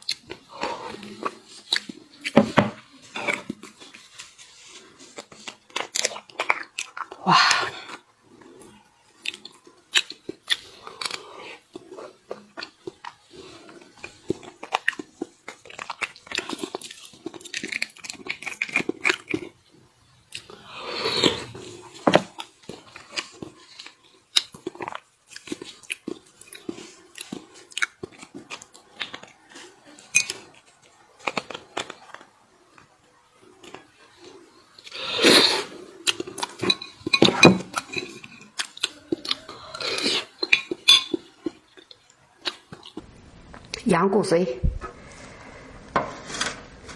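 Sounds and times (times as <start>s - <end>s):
person chewing wetly: 0.0s - 43.0s.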